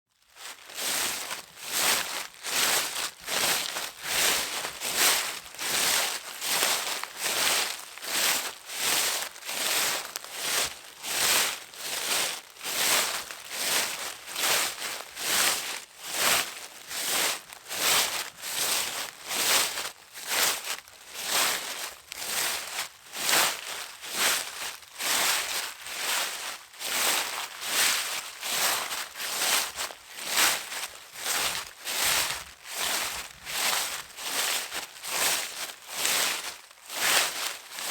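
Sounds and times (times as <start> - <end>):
footsteps crunching dry leaves: 0.2 - 37.9.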